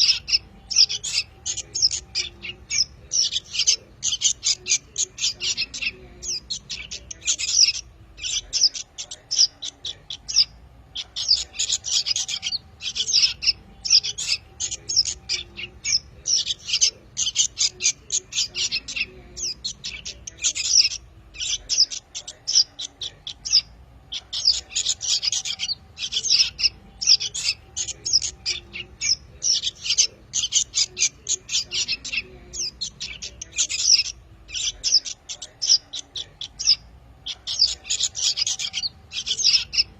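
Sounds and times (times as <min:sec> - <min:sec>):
young songbirds chirping: 0:00.0 - 0:39.9.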